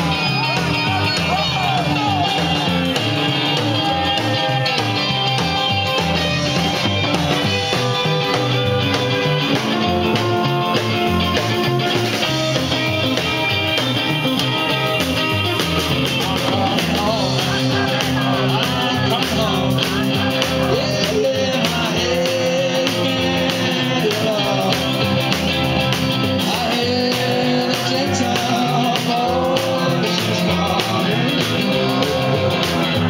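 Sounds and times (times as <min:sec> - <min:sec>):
man singing: 0:00.0 - 0:33.0
rock band playing: 0:00.0 - 0:33.0.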